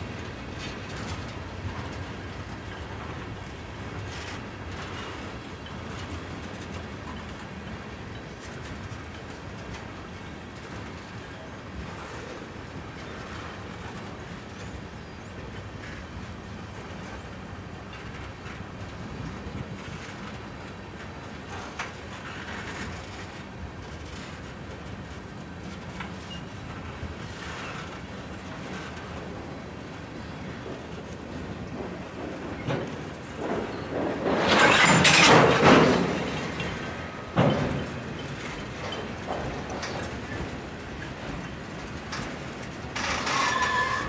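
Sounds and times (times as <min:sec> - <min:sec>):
freight train wheels rolling: 0:00.0 - 0:44.0.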